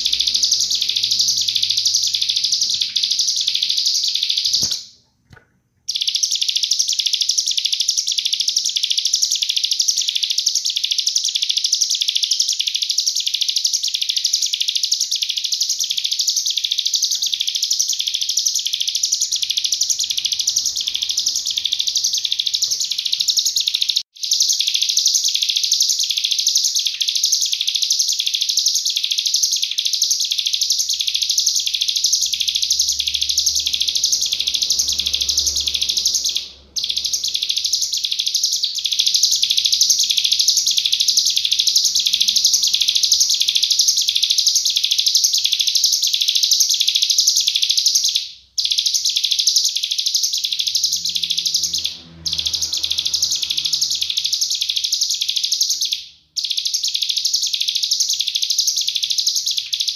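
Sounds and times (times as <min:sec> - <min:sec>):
bird singing high chirping notes: 0:00.0 - 0:05.0, 0:05.9 - 0:59.9.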